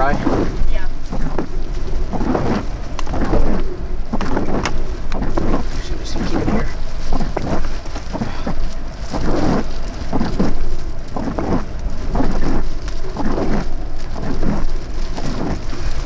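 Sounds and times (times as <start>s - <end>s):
low rumble: 0.0s - 16.0s
rain: 0.0s - 16.0s
wind buffeting microphone: 0.0s - 16.0s.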